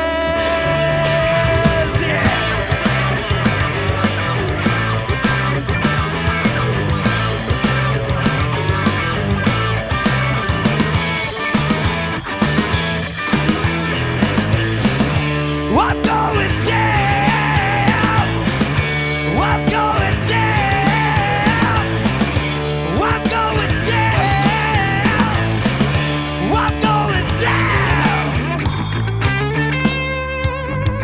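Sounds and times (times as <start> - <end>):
bass and drum groove: 0.0 - 31.0
lead guitar line with slides: 0.0 - 31.0
rock band playing: 0.0 - 31.0.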